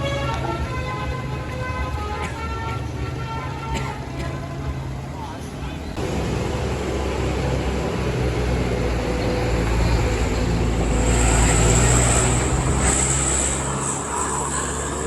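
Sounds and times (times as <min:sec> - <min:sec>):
bus diesel engine driving past: 0:00.0 - 0:15.0.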